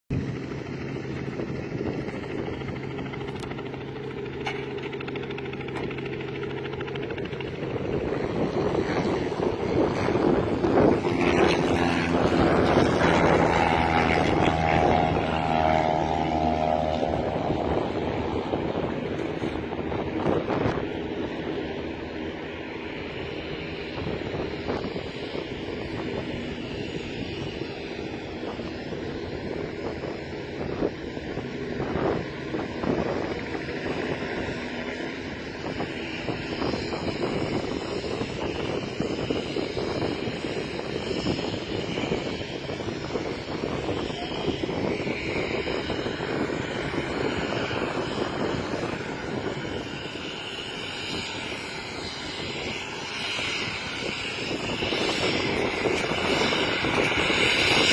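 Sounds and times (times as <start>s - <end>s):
turbojet engine running: 0.1s - 57.9s.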